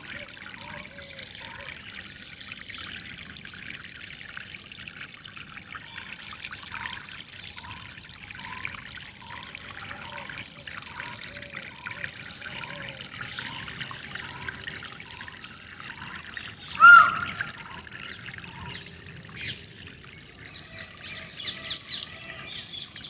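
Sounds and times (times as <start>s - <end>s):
water trickling and flowing: 0.0s - 23.0s.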